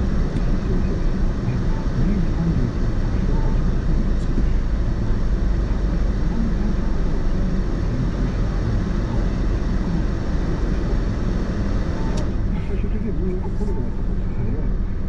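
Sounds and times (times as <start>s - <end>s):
car driving on road: 0.0s - 15.0s.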